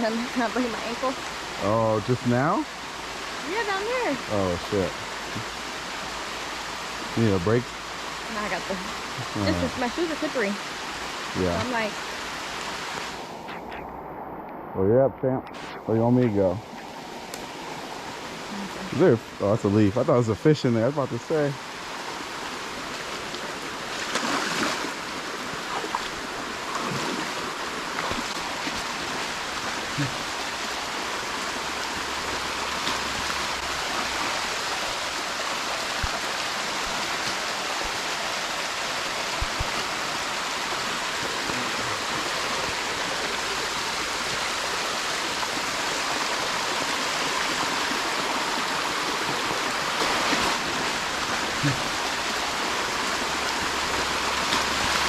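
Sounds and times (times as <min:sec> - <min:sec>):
stream rushing over rocks: 0:00.0 - 0:13.8, 0:15.5 - 0:55.0.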